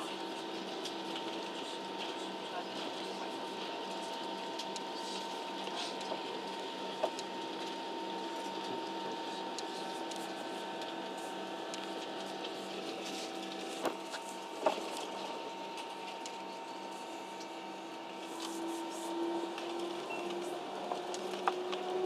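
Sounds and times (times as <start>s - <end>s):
jet engines droning in cabin: 0.0s - 22.0s.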